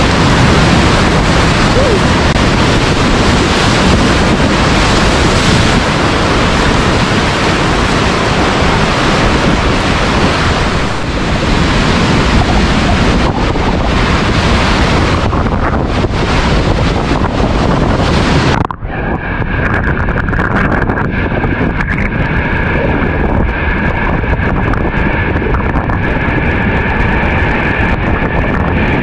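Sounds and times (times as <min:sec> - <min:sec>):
whitewater rapids rushing: 0:00.0 - 0:29.0.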